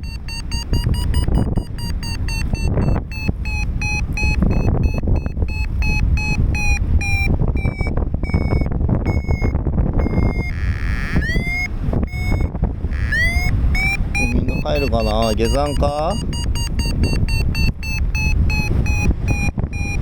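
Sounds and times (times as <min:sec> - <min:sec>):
variometer beeping: 0:00.0 - 0:20.0
wind noise on microphone: 0:00.0 - 0:20.0.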